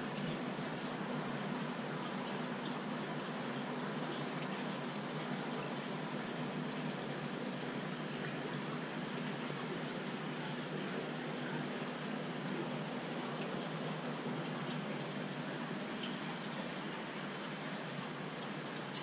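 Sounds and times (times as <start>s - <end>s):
aquarium water rushing: 0.0s - 19.0s.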